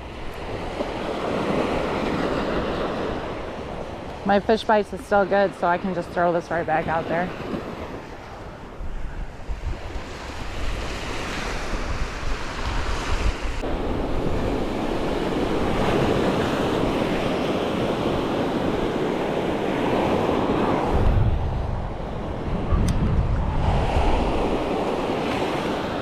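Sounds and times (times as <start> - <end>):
surf washing onto beach: 0.0 - 26.0
wind buffeting microphone: 0.0 - 26.0.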